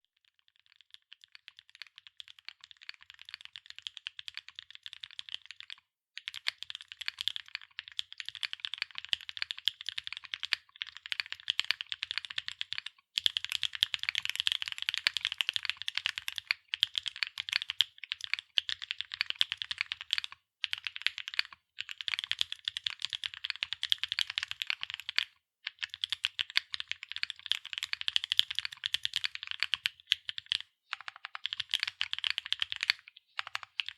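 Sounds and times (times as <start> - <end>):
mechanical keyboard typing: 1.4 - 33.9.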